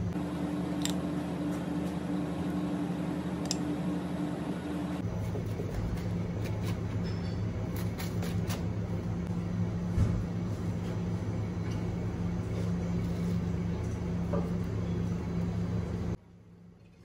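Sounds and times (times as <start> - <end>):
low machine hum with rumble: 0.0 - 17.0.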